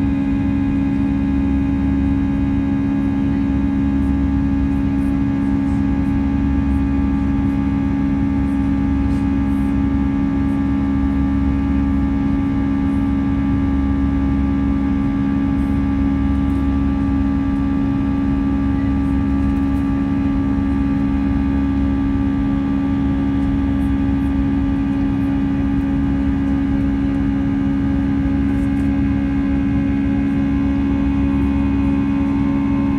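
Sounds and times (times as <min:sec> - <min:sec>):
airplane cabin engine hum: 0:00.0 - 0:32.9.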